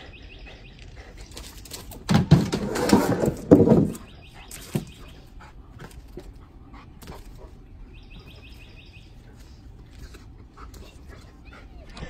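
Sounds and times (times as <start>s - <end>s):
dog panting: 0.0s - 2.0s, 4.2s - 12.0s.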